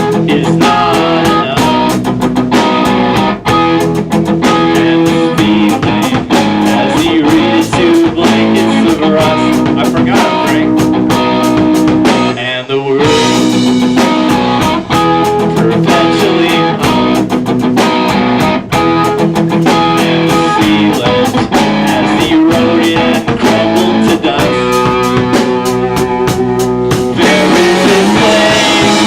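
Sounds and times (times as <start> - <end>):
rock band playing live: 0.0 - 29.0.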